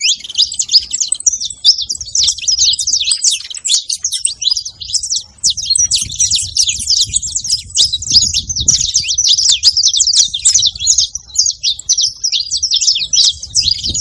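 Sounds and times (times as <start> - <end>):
finch singing high chirps: 0.0 - 14.0.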